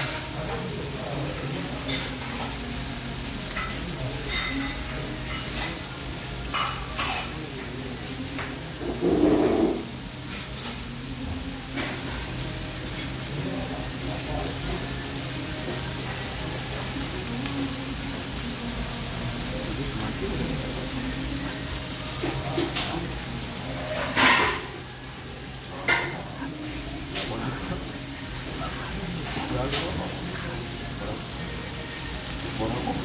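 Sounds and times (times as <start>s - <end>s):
food sizzling on a griddle: 0.0s - 33.0s.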